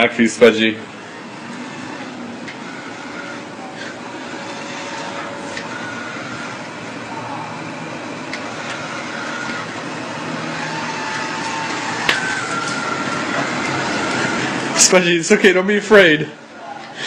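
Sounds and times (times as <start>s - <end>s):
robot vacuum whirring: 0.0s - 15.2s.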